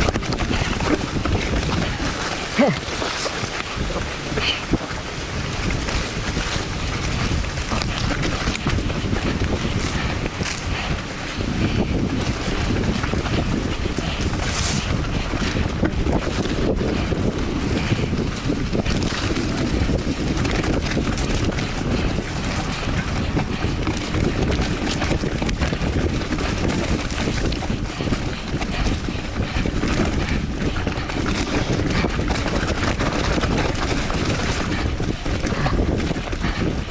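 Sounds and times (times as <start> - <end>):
mountain bike rattling over bumps: 0.0 - 36.9
tyres rumbling on wet dirt: 0.0 - 36.9
wind buffeting microphone: 0.0 - 36.9.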